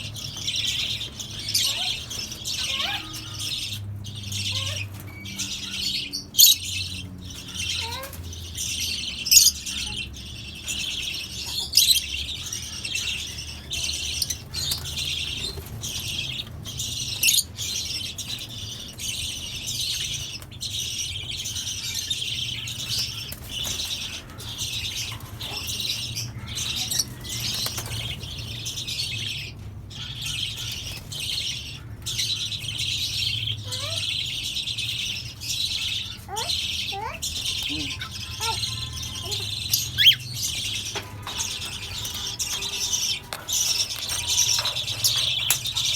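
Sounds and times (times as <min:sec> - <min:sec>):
birds chattering: 0:00.0 - 0:45.9
loud sharp bird calls: 0:00.0 - 0:45.9.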